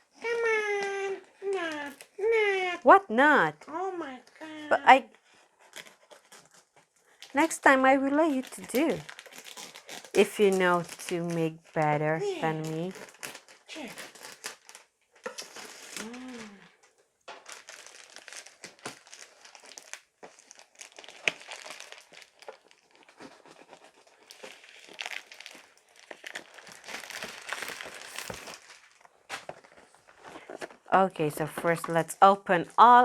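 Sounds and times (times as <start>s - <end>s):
plastic wrapping crinkling: 0.2s - 2.2s, 5.2s - 32.0s.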